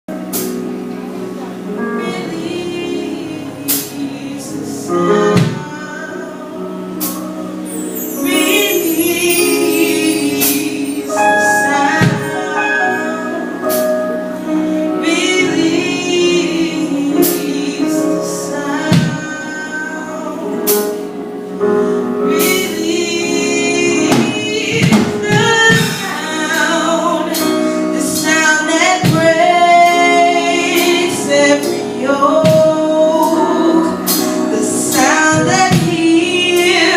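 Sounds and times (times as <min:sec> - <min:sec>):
held chords: 0:00.1 - 0:36.9
choir singing gospel: 0:01.3 - 0:36.9.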